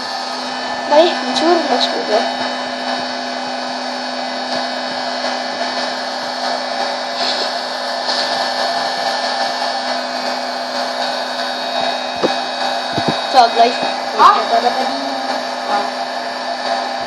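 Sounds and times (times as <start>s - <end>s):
popcorn machine whirring: 0.0s - 17.0s.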